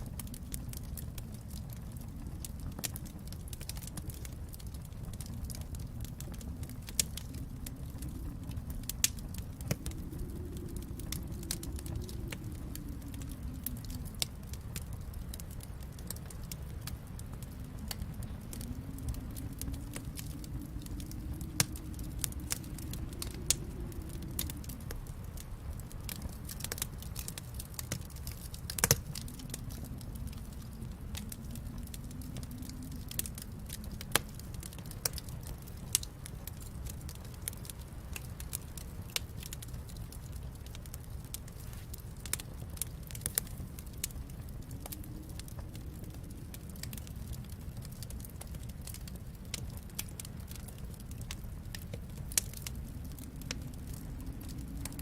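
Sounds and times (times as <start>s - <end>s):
low rumble: 0.0s - 55.0s
wood fire crackling: 0.0s - 55.0s.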